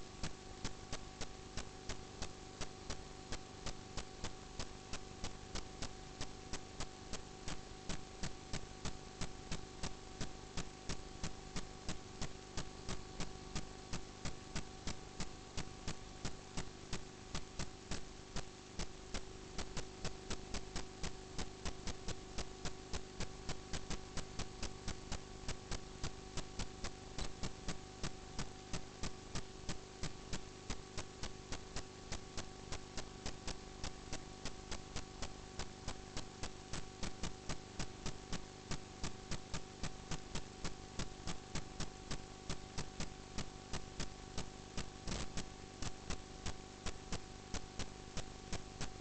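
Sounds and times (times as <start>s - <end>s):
electrical hum: 0.0s - 49.0s.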